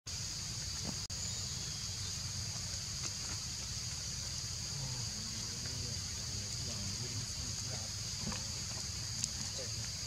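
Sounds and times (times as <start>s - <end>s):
insects buzzing: 0.1s - 10.0s.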